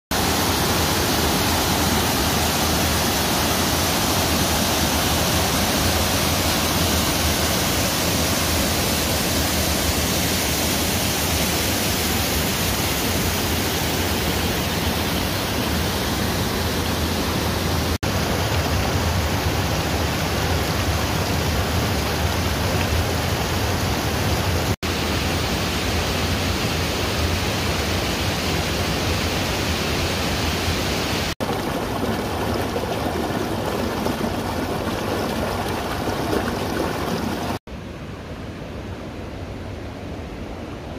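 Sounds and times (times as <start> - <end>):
river water rushing over weir: 0.2 - 38.1.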